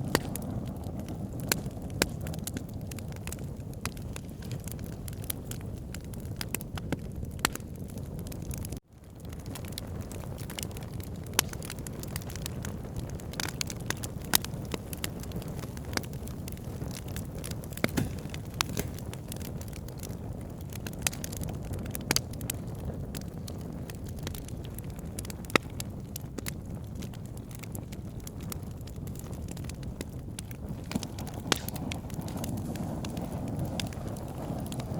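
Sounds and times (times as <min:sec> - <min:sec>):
fire pops and snaps: 0:00.0 - 0:34.9
flames rushing: 0:00.0 - 0:34.9.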